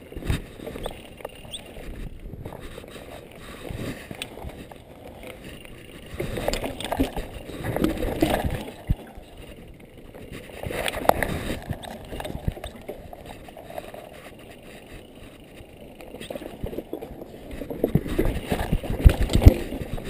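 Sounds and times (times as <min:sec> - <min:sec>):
wind rumble on microphone: 0:00.0 - 0:14.1, 0:15.2 - 0:20.0
bike chain and frame rattling: 0:00.0 - 0:20.0
bike tyres rolling over dirt: 0:00.0 - 0:20.0.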